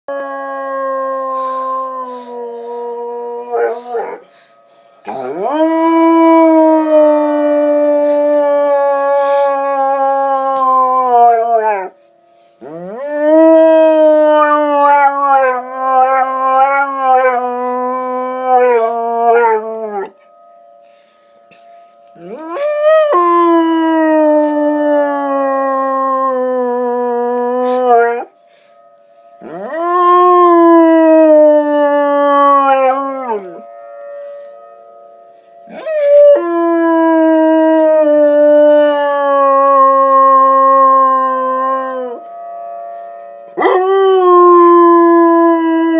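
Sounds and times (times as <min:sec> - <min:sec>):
dog howling: 0:00.1 - 0:04.3, 0:05.1 - 0:12.0, 0:12.6 - 0:20.2, 0:22.2 - 0:28.3, 0:29.4 - 0:33.7, 0:35.7 - 0:42.2, 0:43.6 - 0:45.9
faint siren tone: 0:00.1 - 0:45.9.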